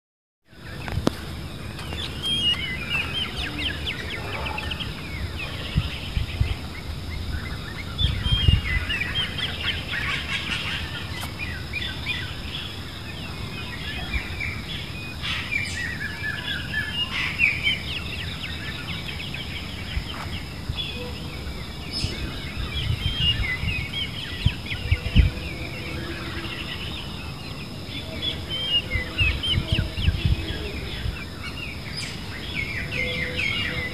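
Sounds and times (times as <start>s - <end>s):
small birds chirping: 0.6s - 33.9s.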